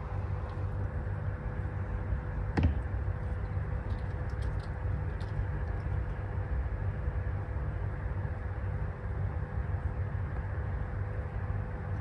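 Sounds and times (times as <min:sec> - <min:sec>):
constant hum: 0:00.0 - 0:12.0
low background rumble: 0:00.0 - 0:12.0.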